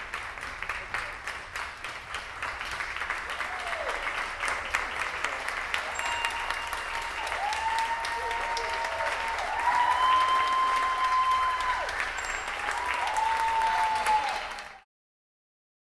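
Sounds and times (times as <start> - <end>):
audience applauding and cheering: 0.0 - 14.9.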